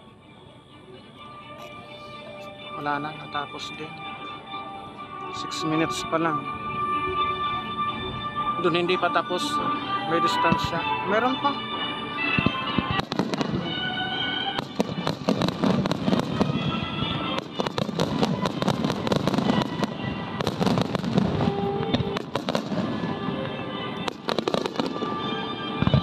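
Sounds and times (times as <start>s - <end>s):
music playing: 0.0s - 26.0s.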